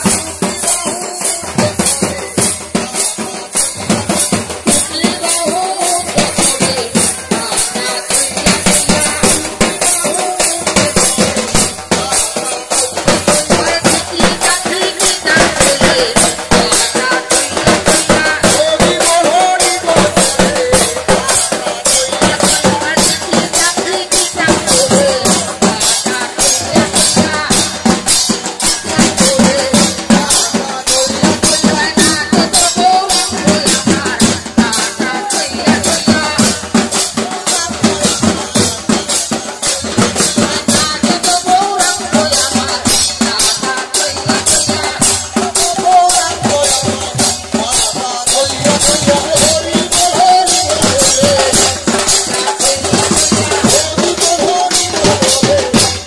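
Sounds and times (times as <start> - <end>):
drums beating quick rhythm: 0.0 - 56.0
hand cymbals: 0.0 - 56.0
voices singing: 0.0 - 56.0.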